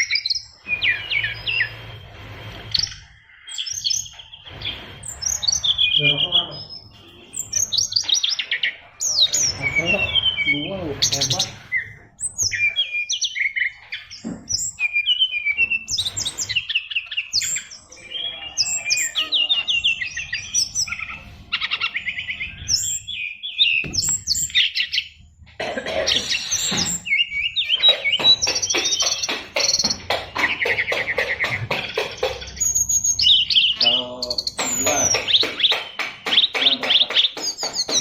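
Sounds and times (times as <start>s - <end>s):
bird singing chirps and trills: 0.0s - 38.0s.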